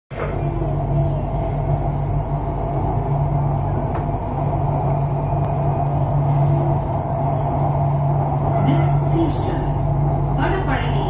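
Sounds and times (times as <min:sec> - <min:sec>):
metro train rumbling: 0:00.1 - 0:11.0.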